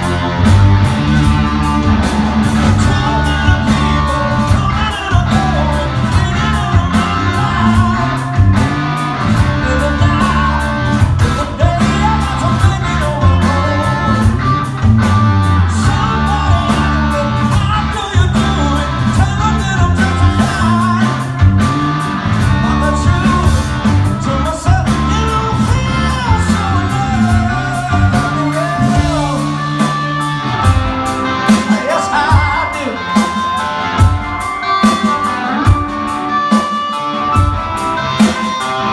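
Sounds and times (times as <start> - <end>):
live rock band playing: 0.0 - 38.9
male lead singer: 0.0 - 38.9.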